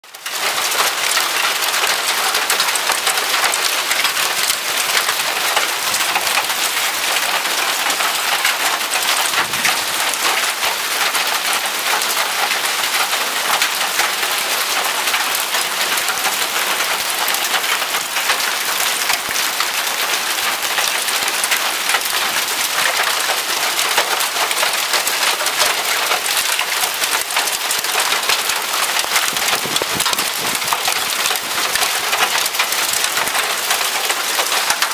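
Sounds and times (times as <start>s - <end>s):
hail and heavy rain pelting: 0.1s - 34.9s.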